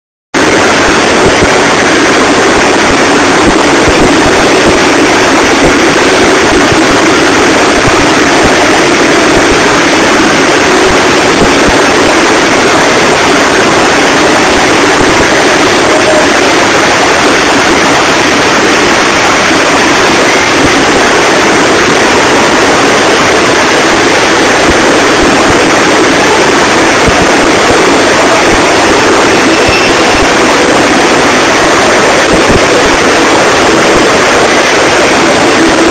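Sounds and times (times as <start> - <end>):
helicopter flying overhead: 0.4 - 35.9.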